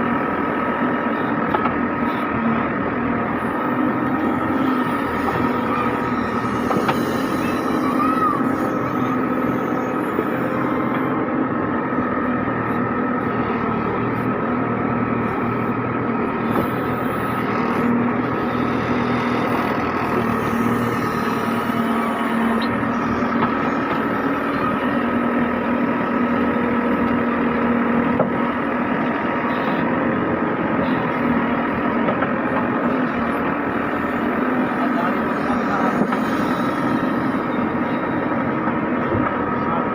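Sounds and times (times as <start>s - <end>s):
constant whine: 0.0s - 39.9s
diesel engine droning: 0.0s - 39.9s.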